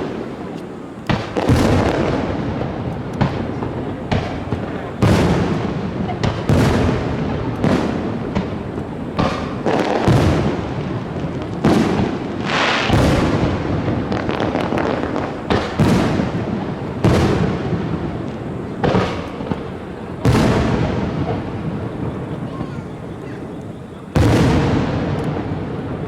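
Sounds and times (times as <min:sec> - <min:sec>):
firework crackle: 0:00.0 - 0:26.0
firework shells bursting: 0:00.0 - 0:26.0.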